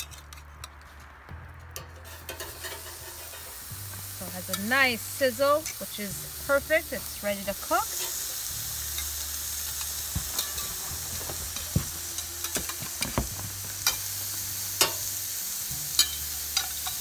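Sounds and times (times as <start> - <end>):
burger patties sizzling on grill: 1.3 - 17.0.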